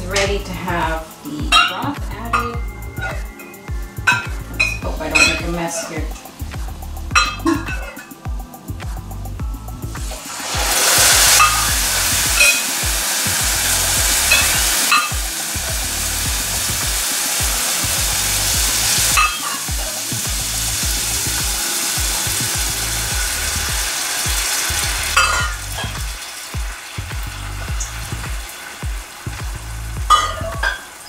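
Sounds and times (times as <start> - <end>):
broth sizzling in hot pot: 0.0 - 31.0.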